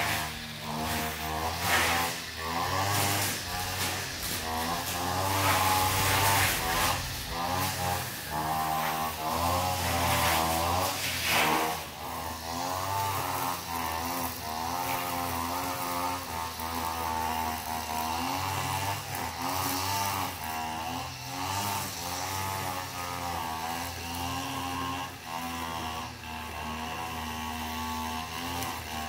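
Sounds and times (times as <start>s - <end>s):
cutting machine engine under load: 0.0s - 29.0s.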